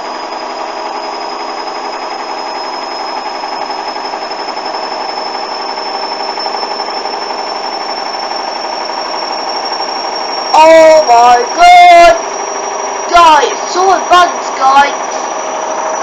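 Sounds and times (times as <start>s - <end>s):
spinning drum hum and rush: 0.0s - 16.0s
washing machine motor whine: 0.0s - 16.0s.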